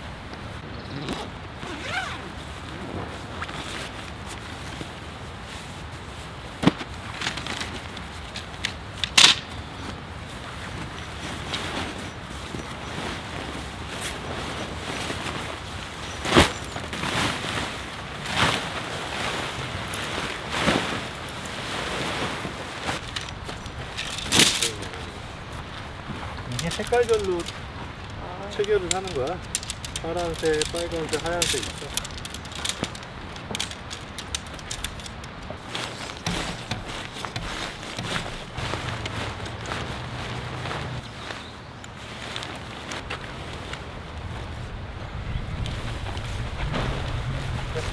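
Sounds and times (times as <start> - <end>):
tent fabric rustling and flapping: 0.0 - 47.9.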